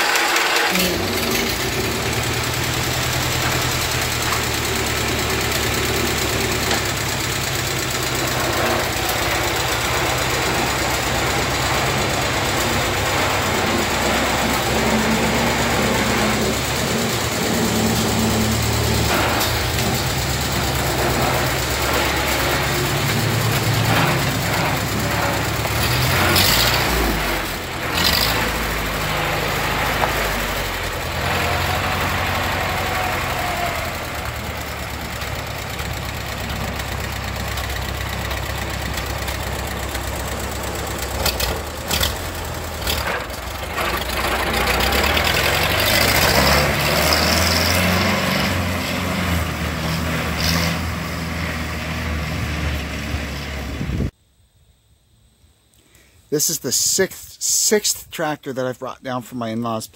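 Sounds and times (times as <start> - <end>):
tractor engine running: 0.0 - 54.2.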